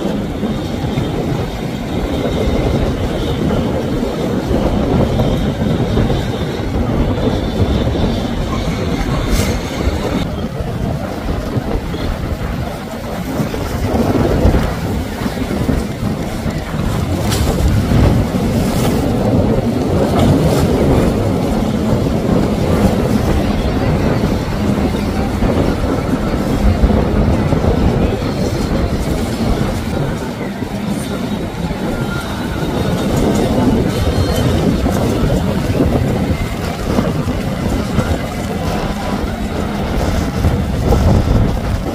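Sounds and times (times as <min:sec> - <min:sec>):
outboard motors running: 0:00.0 - 0:41.9
water splashing against hulls: 0:00.0 - 0:41.9.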